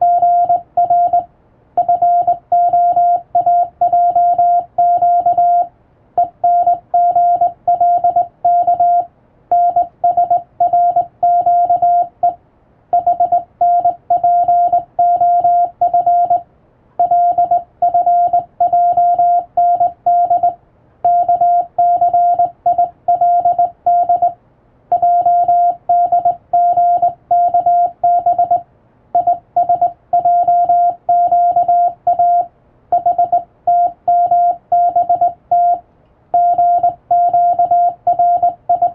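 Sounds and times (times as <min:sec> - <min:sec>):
morse code tone: 0:00.0 - 0:16.4, 0:17.0 - 0:28.6, 0:29.2 - 0:38.9.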